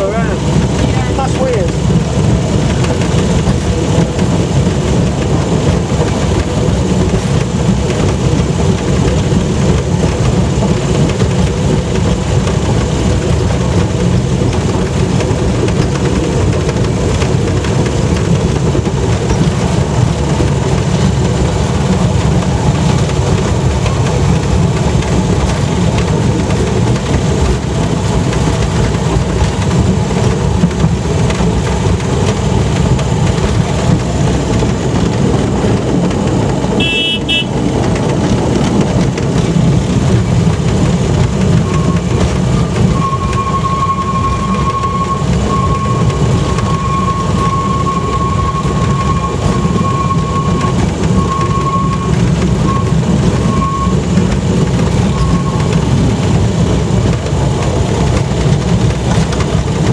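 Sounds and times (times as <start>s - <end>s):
vehicle engine low rumble: 0.0s - 59.9s.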